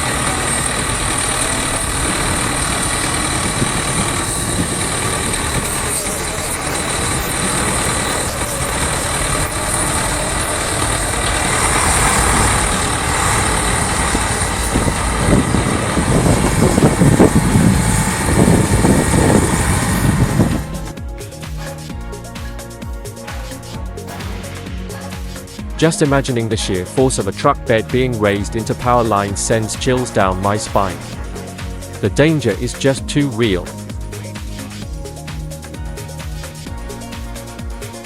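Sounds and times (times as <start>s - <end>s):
people's voices: 0.0s - 34.9s
heavy vehicle engine running: 0.0s - 38.0s
street noise: 0.0s - 38.0s.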